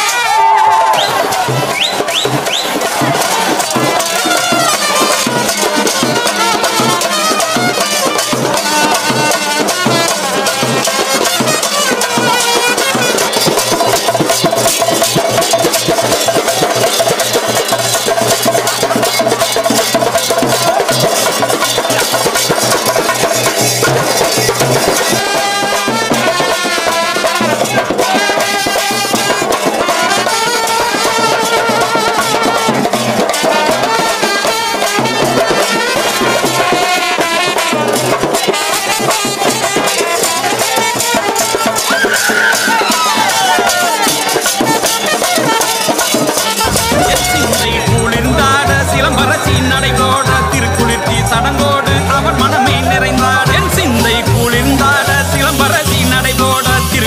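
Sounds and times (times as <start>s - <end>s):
loud drum beat: 0.0s - 57.0s
trumpets playing melody: 0.0s - 57.0s.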